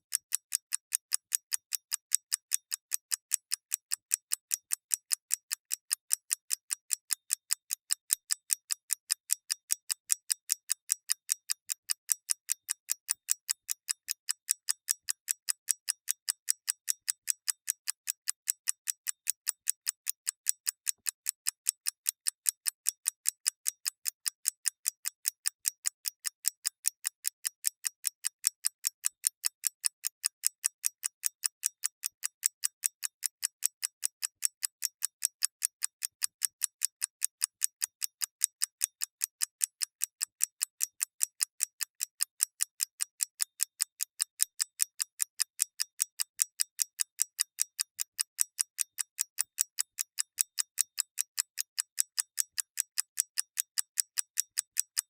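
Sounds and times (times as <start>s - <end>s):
mechanical clock ticking: 0.1s - 55.0s.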